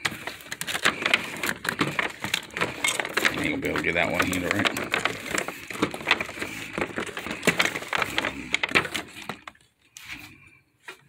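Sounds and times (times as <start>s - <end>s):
plastic toys clattering: 0.0s - 10.3s.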